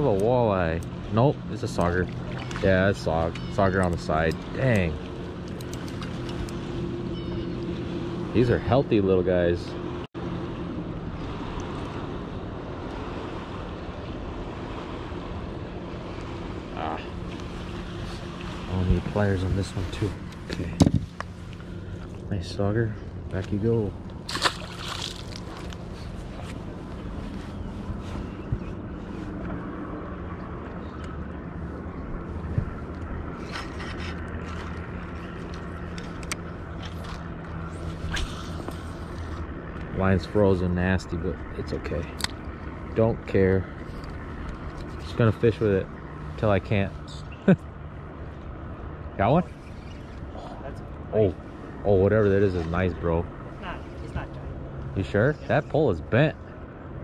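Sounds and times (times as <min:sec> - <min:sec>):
water around boat: 0:00.0 - 0:57.0
wind: 0:00.0 - 0:57.0.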